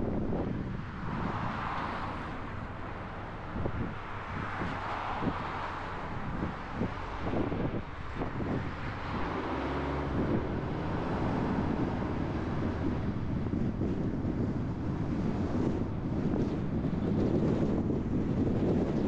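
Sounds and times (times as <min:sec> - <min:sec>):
car engine and tyre noise: 0:00.0 - 0:19.0
wind rushing over microphone: 0:00.0 - 0:19.0.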